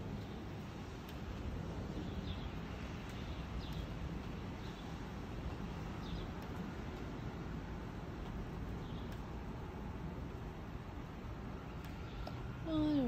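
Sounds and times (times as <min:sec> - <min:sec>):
low hiss and rumble: 0:00.0 - 0:13.0.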